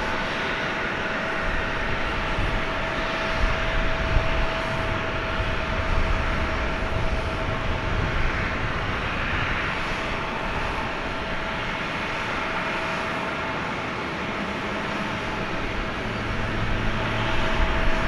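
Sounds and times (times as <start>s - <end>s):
jet aircraft hiss and whine: 0.0s - 18.0s.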